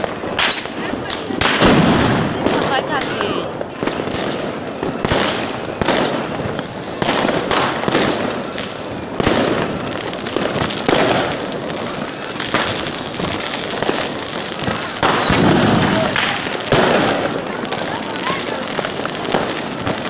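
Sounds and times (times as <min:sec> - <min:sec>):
firecrackers crackling and popping: 0:00.0 - 0:20.0
firework bangs: 0:00.0 - 0:20.0.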